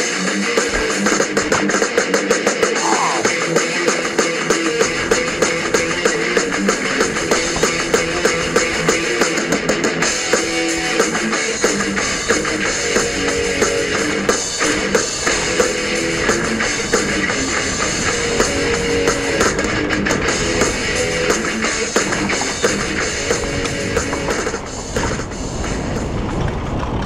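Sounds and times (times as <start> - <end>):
guitar playing: 0.0 - 24.8
steady drum beat: 0.0 - 26.0.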